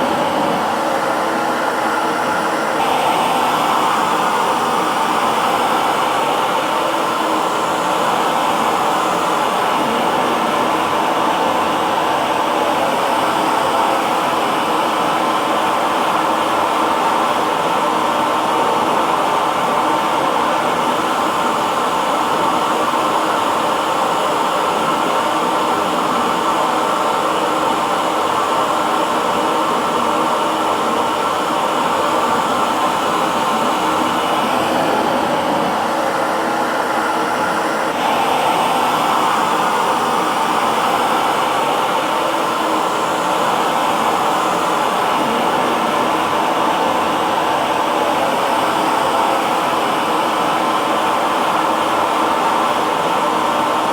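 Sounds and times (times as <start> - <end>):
hair dryer blowing air: 0.0 - 53.9.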